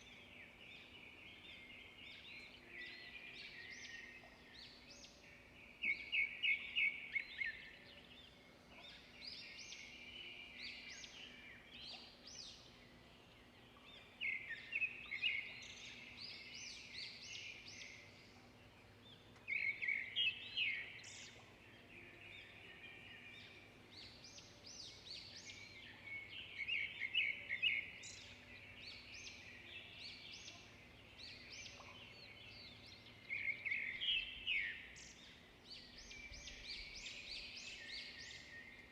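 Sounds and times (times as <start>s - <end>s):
soft bird chirps and calls: 0.0s - 38.9s.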